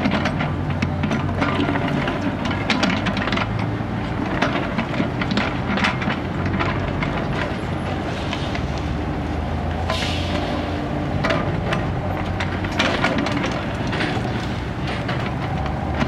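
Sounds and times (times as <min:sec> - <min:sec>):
bucket scraping and clanking in soil: 0:00.0 - 0:16.0
excavator diesel engine running: 0:00.0 - 0:16.0.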